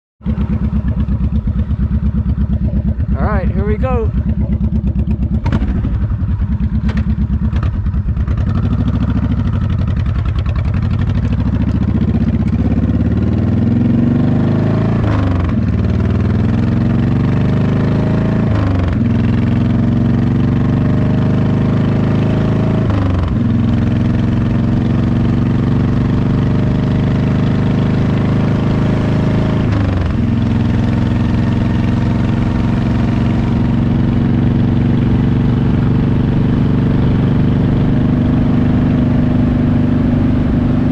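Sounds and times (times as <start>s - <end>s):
motorcycle engine accelerating: 0.2s - 40.9s.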